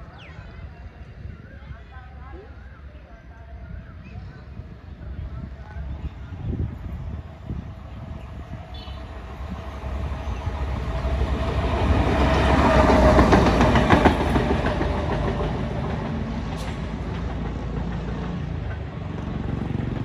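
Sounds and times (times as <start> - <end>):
rail vehicle rumbling past: 3.6 - 20.0.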